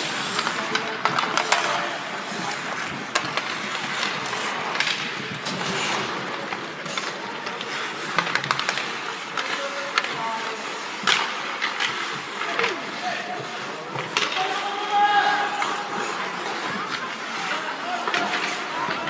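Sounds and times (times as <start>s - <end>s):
hockey sticks and puck clacking: 0.0s - 19.0s
skates scraping ice: 0.0s - 19.0s.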